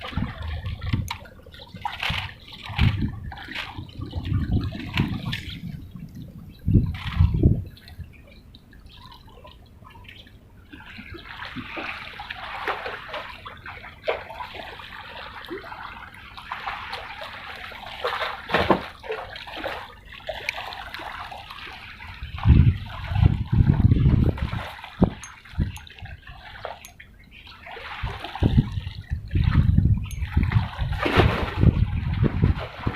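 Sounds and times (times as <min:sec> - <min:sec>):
water sloshing and trickling: 0:00.0 - 0:32.9.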